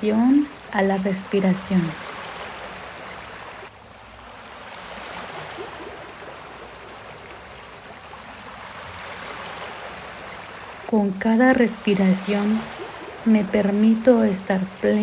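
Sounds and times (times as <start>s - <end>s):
sea waves washing in: 0.0s - 15.0s.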